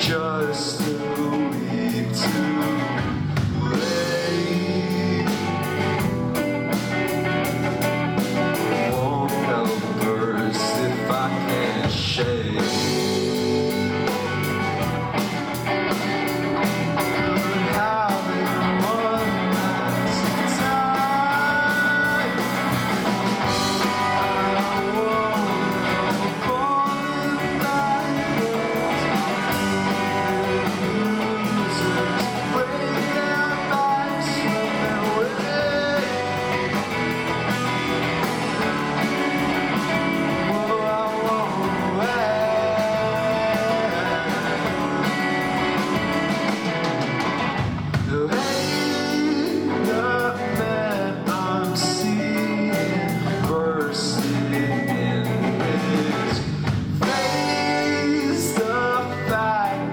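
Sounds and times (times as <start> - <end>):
lead vocal singing: 0.0 - 6.8, 8.2 - 46.6, 48.0 - 59.9
live rock band playing: 0.0 - 59.9.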